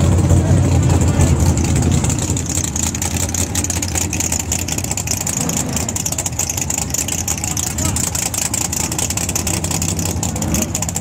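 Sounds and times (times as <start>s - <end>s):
engine idling with choppy rumble: 0.0s - 11.0s.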